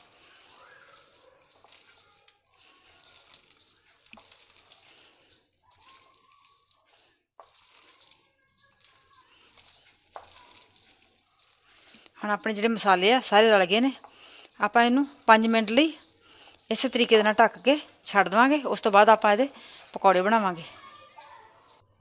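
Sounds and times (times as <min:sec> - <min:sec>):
wet batter squishing by hand: 0:00.0 - 0:20.6.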